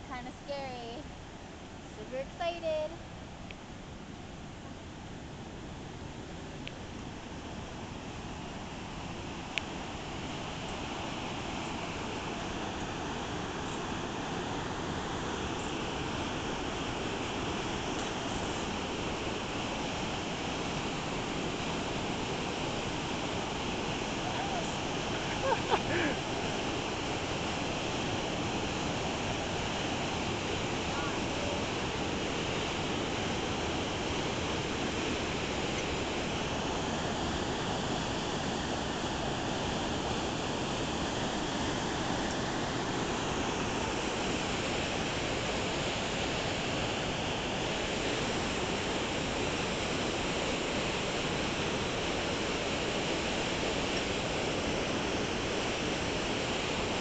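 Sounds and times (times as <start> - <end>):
whitewater roaring down rocks: 6.8 - 57.0.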